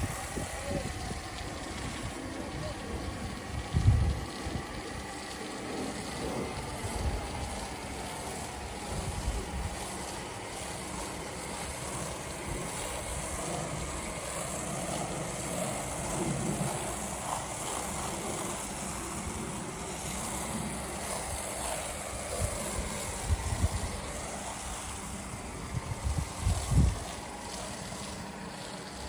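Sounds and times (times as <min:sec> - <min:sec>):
pressure washer spraying water: 0:00.0 - 0:29.0
wind buffeting microphone: 0:00.0 - 0:29.0.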